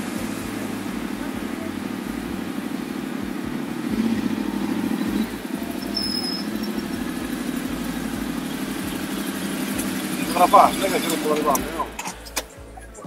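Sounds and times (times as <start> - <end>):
motorcycle engine at low revs: 0.0 - 12.6.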